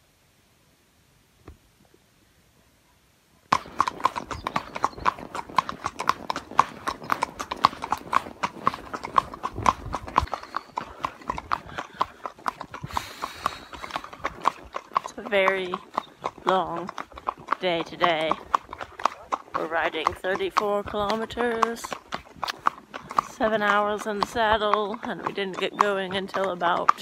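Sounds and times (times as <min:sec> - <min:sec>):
horse hooves on paved road: 0:03.5 - 0:27.0.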